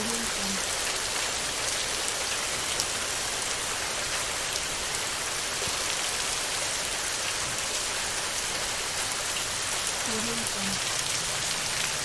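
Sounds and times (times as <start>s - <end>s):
heavy rain on a tin roof: 0.0s - 12.0s.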